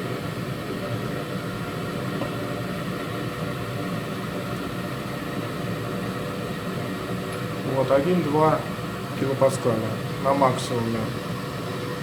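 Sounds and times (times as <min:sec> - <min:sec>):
gas boiler burner running: 0:00.0 - 0:12.0.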